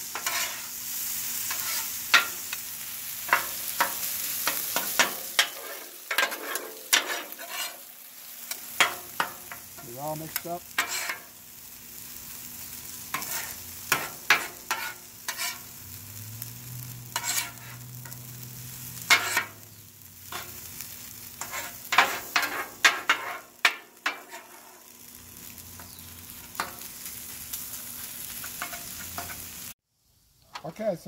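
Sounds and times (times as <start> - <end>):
metal spatulas scraping on griddle: 0.0 - 11.4, 12.9 - 15.8, 17.0 - 24.9, 25.5 - 29.7
food sizzling: 0.0 - 31.0.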